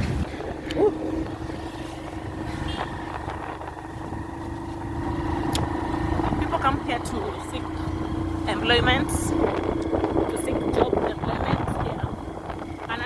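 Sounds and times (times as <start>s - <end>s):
low road rumble: 0.0s - 13.0s
vehicle engine running: 0.0s - 13.0s.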